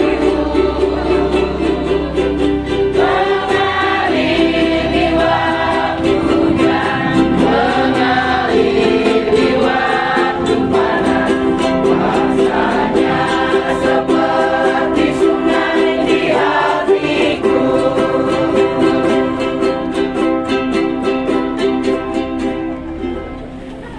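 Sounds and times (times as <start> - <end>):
choir singing a hymn: 0.0 - 22.0
strummed plucked string instrument: 0.0 - 23.9.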